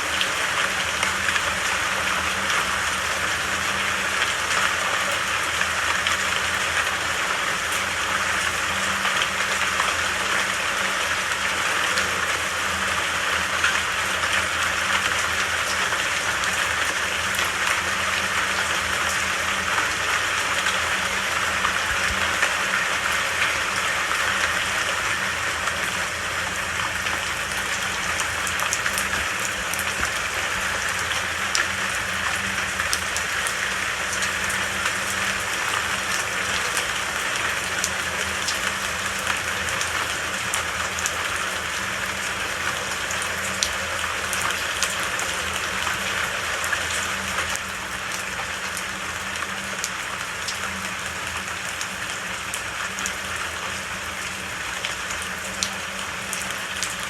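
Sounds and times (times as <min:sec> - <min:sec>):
steady rain hiss: 0:00.0 - 0:57.0
raindrops ticking: 0:00.1 - 0:57.0.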